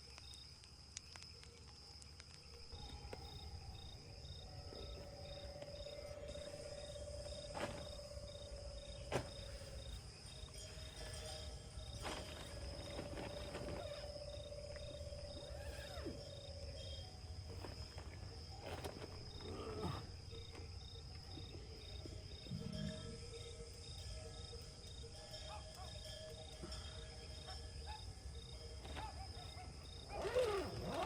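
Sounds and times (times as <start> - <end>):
insect fast pulsing trill: 2.4 - 31.0.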